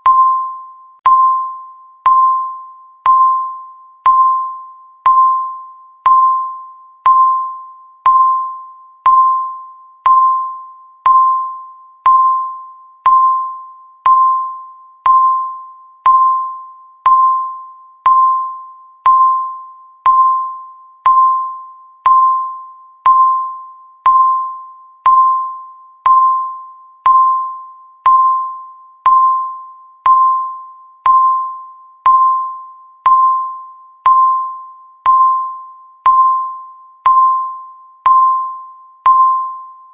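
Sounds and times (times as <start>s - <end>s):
electronic timer ticks: 2.0s - 5.4s, 6.0s - 39.3s.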